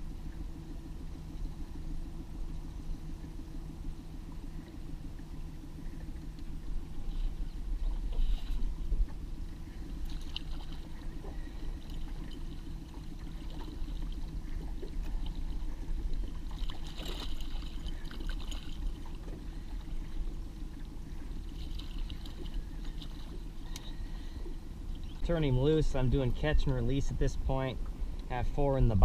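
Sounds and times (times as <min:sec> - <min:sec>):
small boat motor running: 0:00.0 - 0:29.0.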